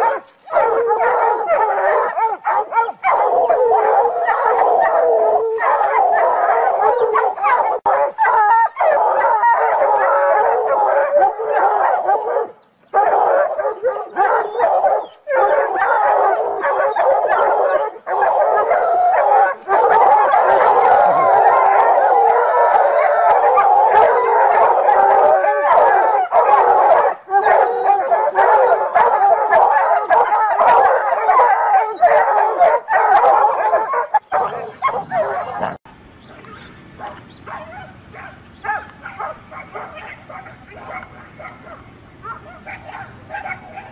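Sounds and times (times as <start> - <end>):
dogs barking and howling: 0.0 - 43.9.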